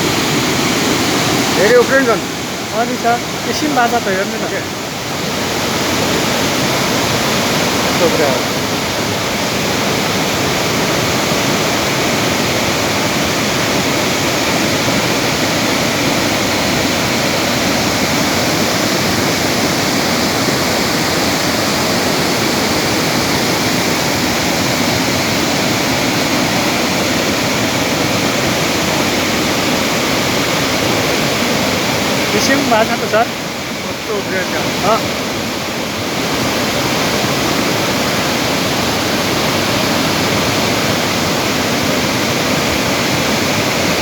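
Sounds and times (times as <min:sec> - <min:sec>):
river floodwater rushing: 0:00.0 - 0:44.0.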